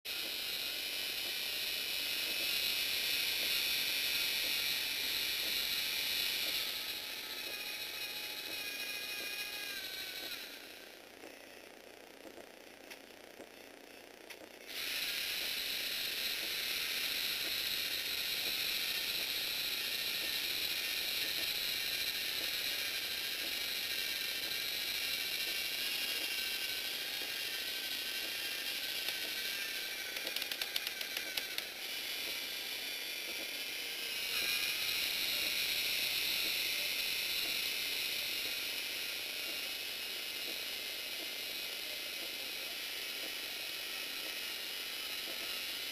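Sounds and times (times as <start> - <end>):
rapid gear clicks: 0.1 - 45.9
servo motors whirring: 0.1 - 45.9.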